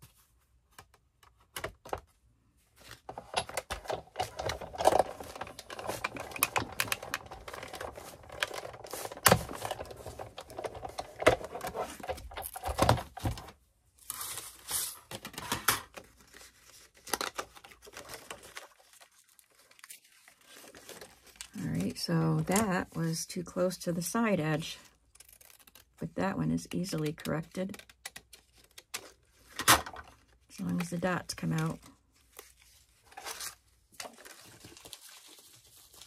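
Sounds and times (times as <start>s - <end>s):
paper crinkling: 2.7s - 12.7s, 14.0s - 23.2s, 25.1s - 26.0s, 27.1s - 36.0s.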